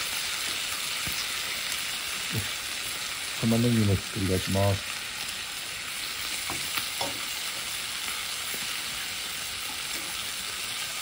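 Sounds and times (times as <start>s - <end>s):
meat and onions sizzling in pan: 0.0s - 11.0s.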